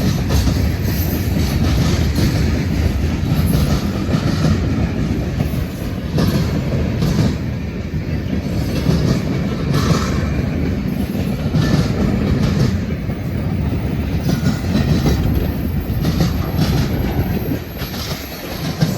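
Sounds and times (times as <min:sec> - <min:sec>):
train wheels rumbling on rail: 0:00.0 - 0:18.9
wheels clicking over rail joints: 0:00.0 - 0:18.9.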